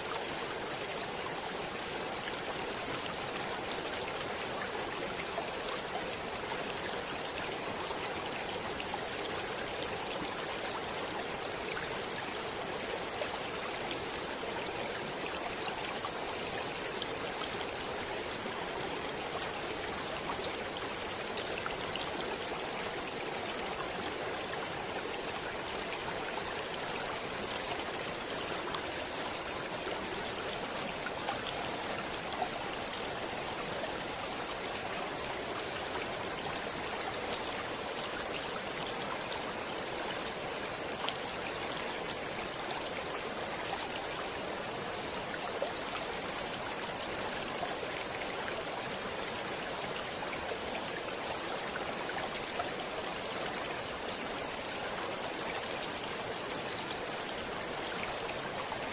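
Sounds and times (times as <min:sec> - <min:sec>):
stream water flowing: 0:00.0 - 0:58.9.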